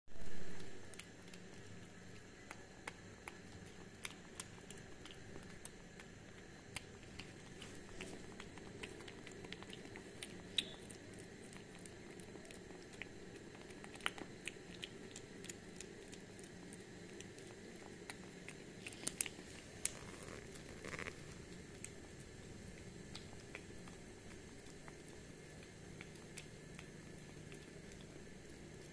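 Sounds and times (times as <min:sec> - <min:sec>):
low background noise: 0:00.1 - 0:28.9
kitten chewing wet food: 0:00.2 - 0:28.9
teeth clicking on food: 0:00.5 - 0:28.9.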